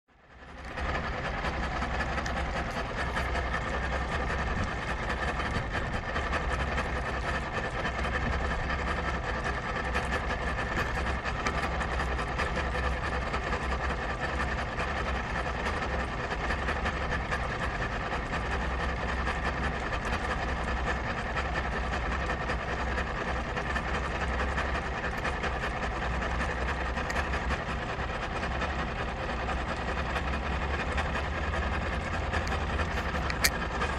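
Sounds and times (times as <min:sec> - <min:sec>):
engine idling roughly: 0:00.1 - 0:33.9.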